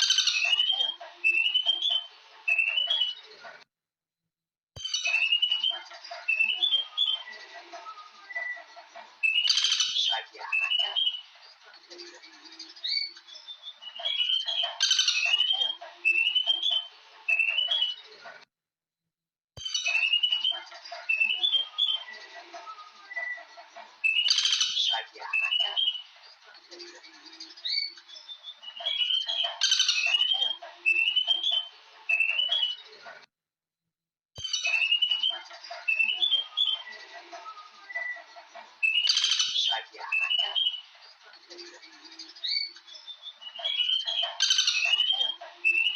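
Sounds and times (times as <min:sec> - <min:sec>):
birds chirping: 0:00.0 - 0:03.6, 0:04.8 - 0:18.4, 0:19.6 - 0:33.3, 0:34.4 - 0:45.9.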